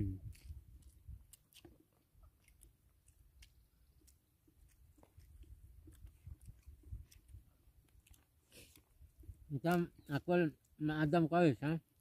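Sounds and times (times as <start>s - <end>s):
quiet chewing: 0.0s - 10.8s.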